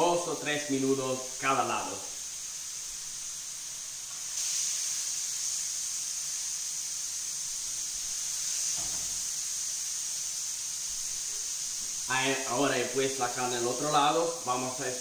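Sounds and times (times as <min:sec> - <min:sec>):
steak sizzling in a frying pan: 0:00.0 - 0:15.0.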